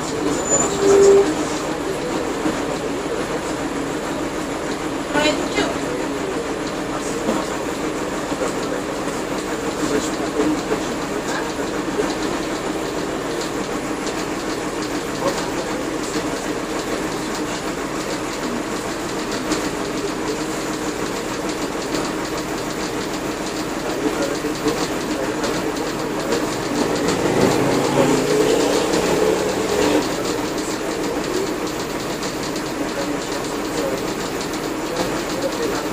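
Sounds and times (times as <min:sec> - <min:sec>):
bus diesel engine running: 0:00.0 - 0:35.9.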